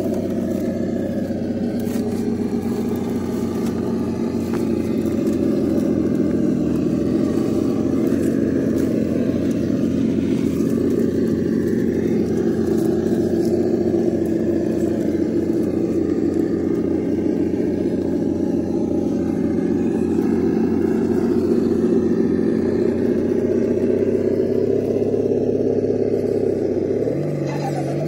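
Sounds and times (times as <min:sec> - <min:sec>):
simulated engine rumble: 0:00.0 - 0:28.0.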